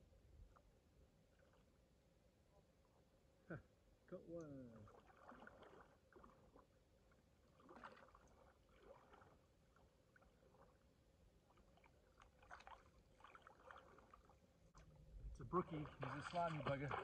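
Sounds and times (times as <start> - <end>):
water around wading person: 0.0 - 17.0.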